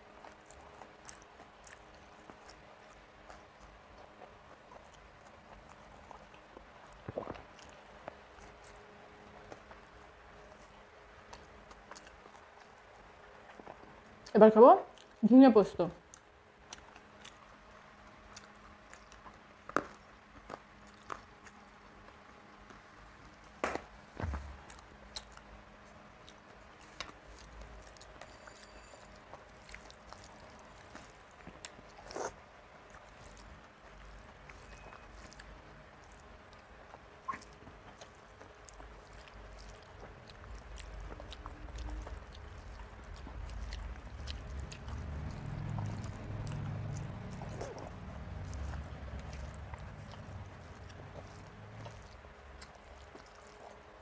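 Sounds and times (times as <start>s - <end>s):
eating and chewing: 0.0s - 54.0s.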